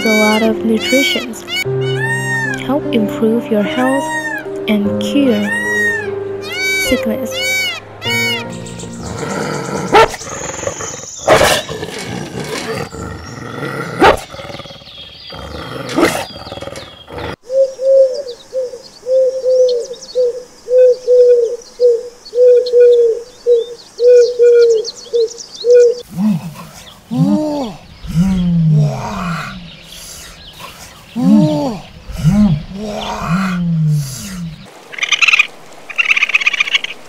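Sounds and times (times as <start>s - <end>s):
pigeons cooing: 5.5s - 35.4s.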